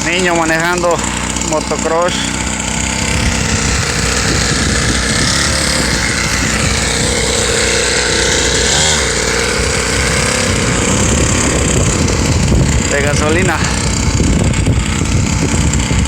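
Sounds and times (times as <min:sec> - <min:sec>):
small motorbike engine running: 0:00.0 - 0:16.0.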